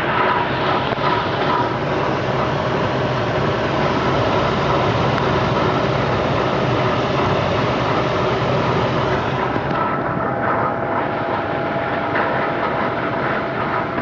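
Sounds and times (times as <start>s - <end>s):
washing and drying machine running: 0.0s - 14.0s.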